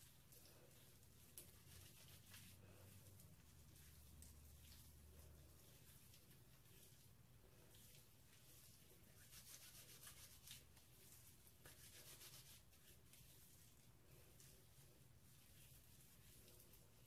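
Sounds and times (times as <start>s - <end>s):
hands rubbing wet hair: 0.0s - 17.0s
low room hum: 0.0s - 17.0s.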